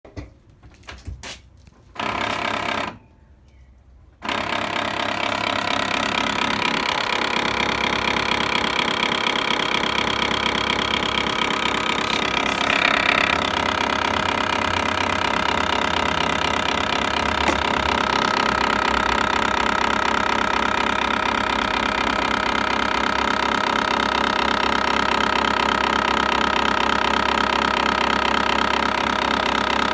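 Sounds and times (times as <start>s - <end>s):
rapid buzzing rattle from engine bay: 1.9s - 3.0s, 4.2s - 29.9s.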